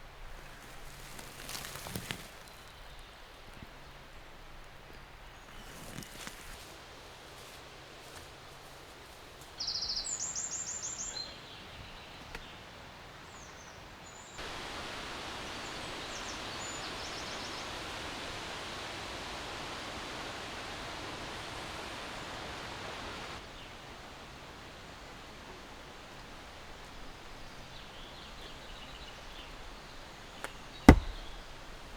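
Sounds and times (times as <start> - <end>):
strong wind through trees: 0.0 - 31.9.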